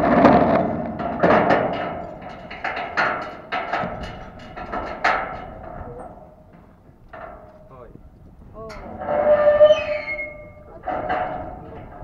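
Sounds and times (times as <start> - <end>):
hooves knocking on metal stall: 0.0 - 12.0.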